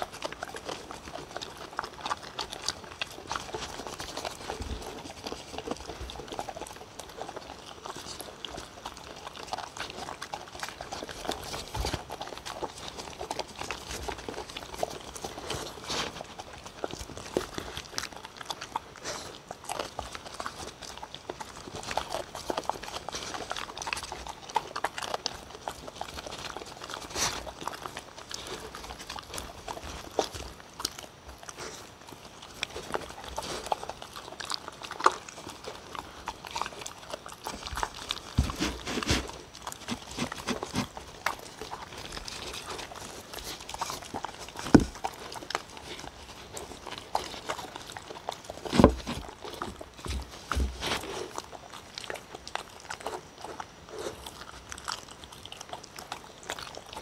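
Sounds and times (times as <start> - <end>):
dogs chewing and licking: 0.0 - 57.0.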